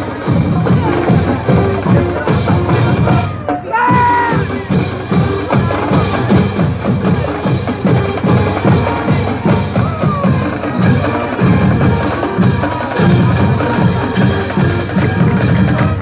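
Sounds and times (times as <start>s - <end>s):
drumline beat: 0.0s - 16.0s.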